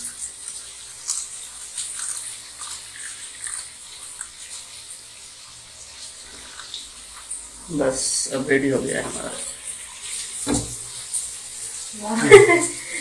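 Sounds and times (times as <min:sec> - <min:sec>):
drips onto wet counter: 0:00.0 - 0:13.0
water draining off steel plate: 0:00.0 - 0:13.0.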